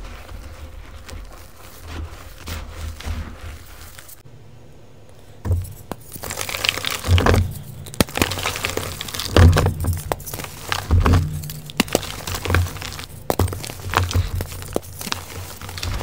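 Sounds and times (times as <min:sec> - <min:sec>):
chalk crunching between fingers: 0:00.0 - 0:04.2, 0:05.6 - 0:16.0.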